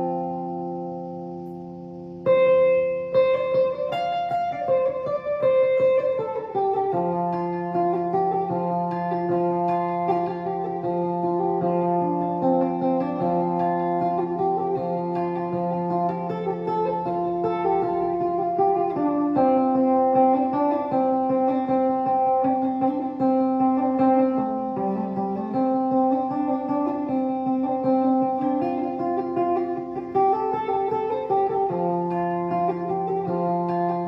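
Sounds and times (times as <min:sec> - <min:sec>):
plucked guitar instrumental: 0:00.0 - 0:34.0.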